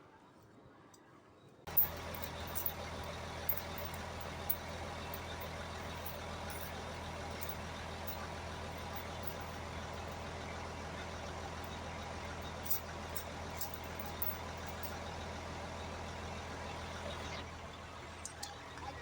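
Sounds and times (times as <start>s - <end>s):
engine humming: 1.7s - 19.0s.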